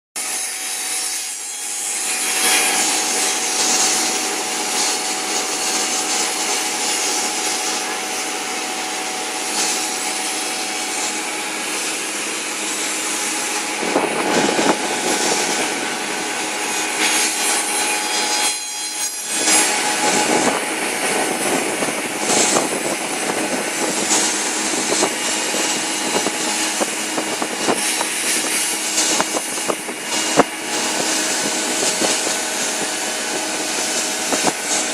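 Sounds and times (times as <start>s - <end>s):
blades cutting: 0.2s - 34.9s
motor hum: 0.6s - 34.9s.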